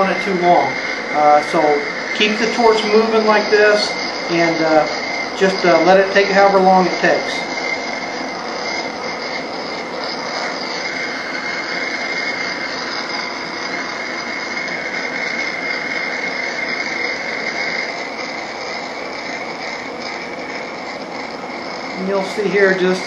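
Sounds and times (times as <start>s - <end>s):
butane torch hissing: 0.0s - 23.0s
thin steady whistle: 0.0s - 23.0s.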